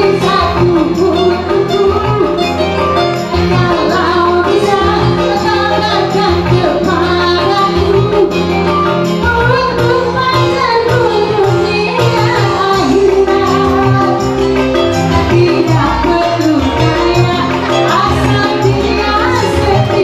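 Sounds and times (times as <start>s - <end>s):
song with singer and beat: 0.0s - 20.0s.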